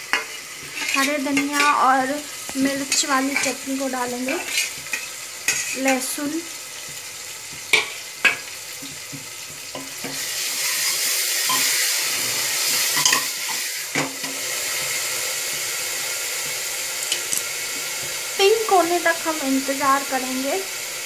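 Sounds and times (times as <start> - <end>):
chutney sizzling in hot oil: 0.0 - 21.0.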